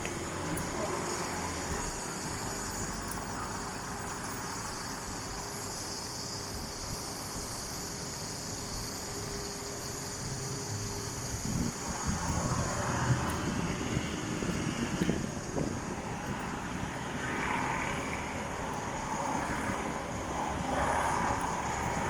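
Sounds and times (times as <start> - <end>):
high-pitched insect chorus: 0.0 - 22.0
low rumble of traffic: 0.0 - 22.0.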